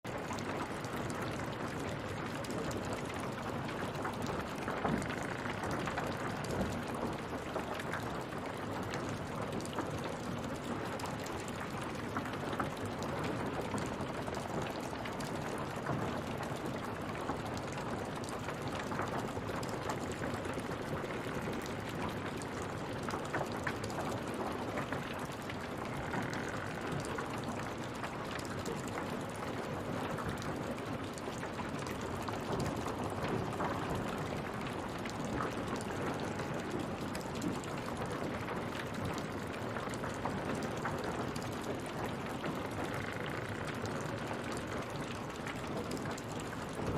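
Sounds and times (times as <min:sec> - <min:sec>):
water running and splashing: 0:00.1 - 0:46.9.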